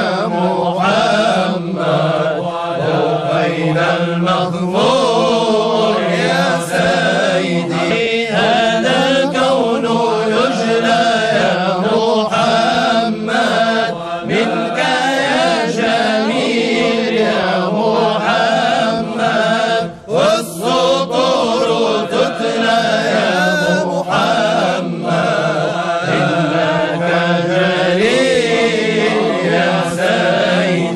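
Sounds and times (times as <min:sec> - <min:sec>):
voices chanting melodically: 0:00.0 - 0:30.9.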